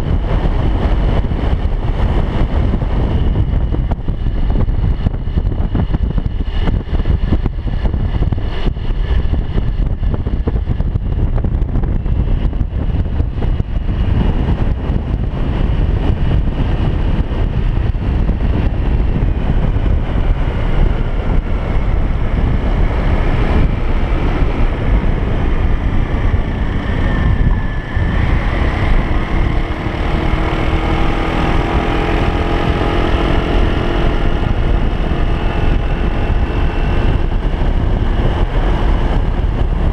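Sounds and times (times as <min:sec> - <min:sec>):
engine tones gliding: 0:00.0 - 0:39.9
vehicle rumble: 0:00.0 - 0:39.9
wind buffeting microphone: 0:00.0 - 0:39.9.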